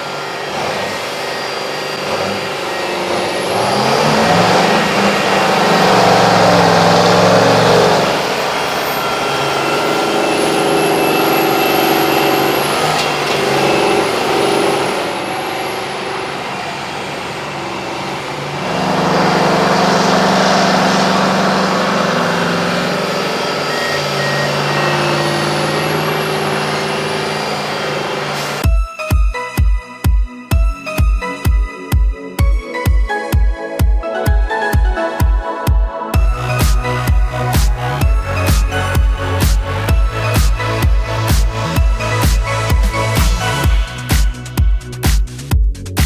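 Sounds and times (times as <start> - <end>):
truck diesel engine under load: 0.0 - 28.6, 36.2 - 46.0.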